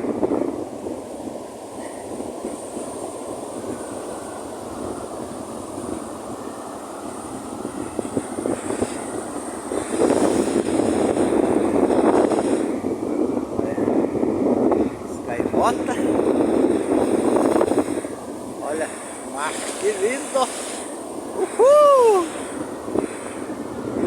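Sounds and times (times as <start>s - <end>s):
surf rushing: 0.0s - 24.0s
wind buffeting microphone: 0.0s - 24.0s.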